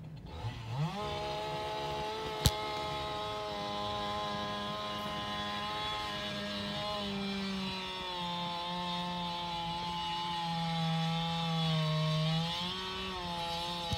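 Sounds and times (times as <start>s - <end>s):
chainsaw engine revving: 0.0s - 13.9s.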